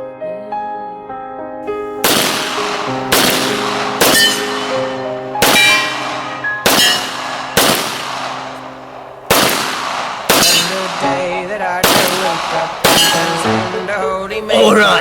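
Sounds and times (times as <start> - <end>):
background music: 1.6 - 15.0
gunshots with echo: 1.8 - 15.0.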